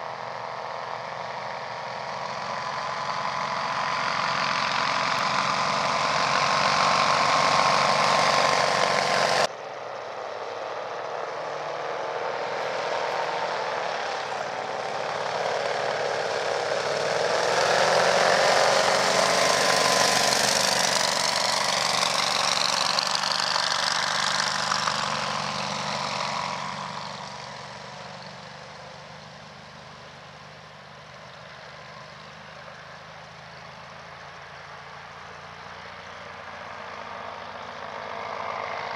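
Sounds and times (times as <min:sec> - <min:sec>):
paraglider engine and propeller: 0:00.0 - 0:38.9.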